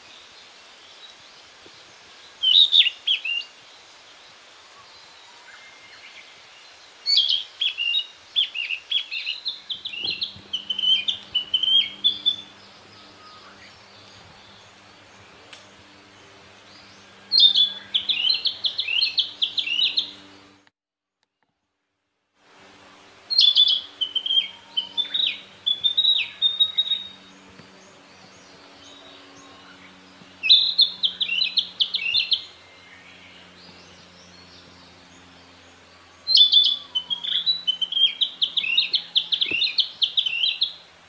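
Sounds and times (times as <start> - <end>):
bird singing: 2.2 - 3.9, 4.7 - 20.6, 22.8 - 40.8.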